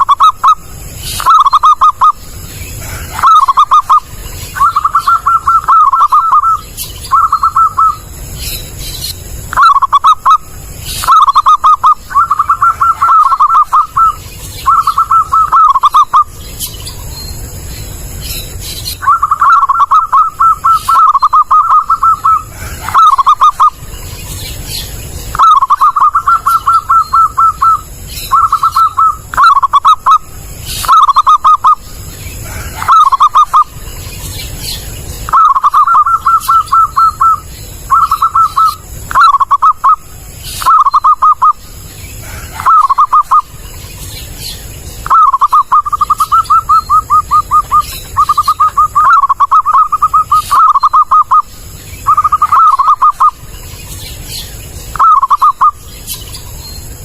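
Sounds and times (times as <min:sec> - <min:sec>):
dove cooing: 0:00.0 - 0:08.1, 0:09.4 - 0:16.3, 0:18.9 - 0:23.9, 0:24.6 - 0:33.9, 0:34.6 - 0:43.6, 0:44.6 - 0:53.5, 0:54.9 - 0:55.8.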